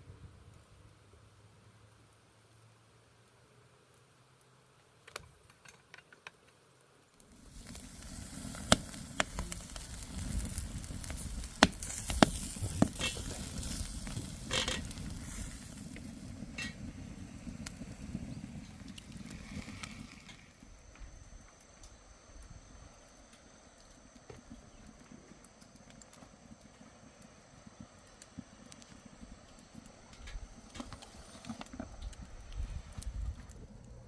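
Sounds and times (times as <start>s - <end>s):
wood fire crackling and popping: 1.9s - 34.0s.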